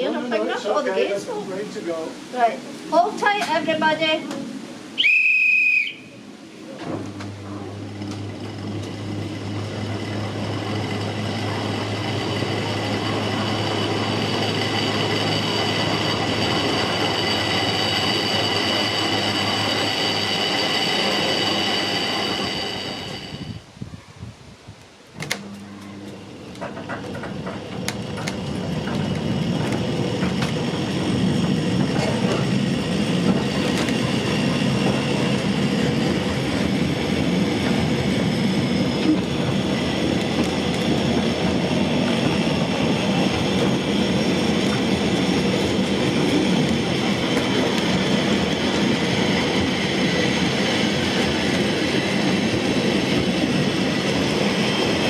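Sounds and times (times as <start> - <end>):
train rumbling on rails: 0.0 - 55.0
train wheels clicking: 6.9 - 23.5, 26.1 - 55.0.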